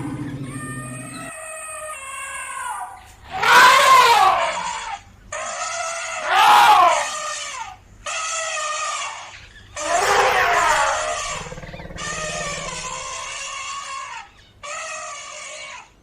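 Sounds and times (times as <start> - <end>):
elephant trumpeting: 0.0 - 2.1, 3.3 - 15.7.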